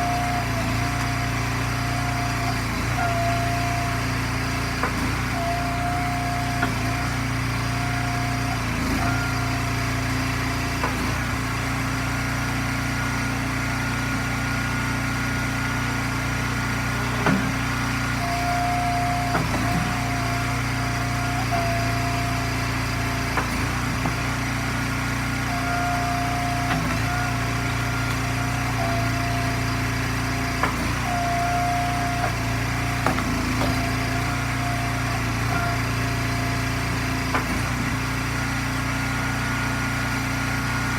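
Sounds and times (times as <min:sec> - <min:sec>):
hydraulic whine: 0:00.0 - 0:40.9
small gas engine running: 0:00.0 - 0:40.9.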